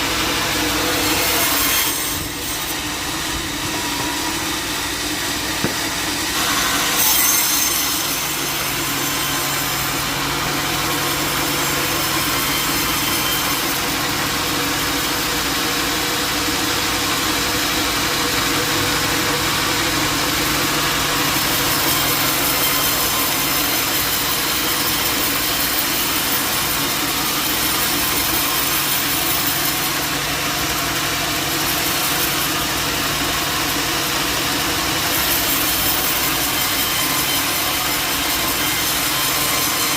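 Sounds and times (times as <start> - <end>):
saw blade rasping through log: 0.0 - 39.9
sawmill motor hum: 0.0 - 39.9.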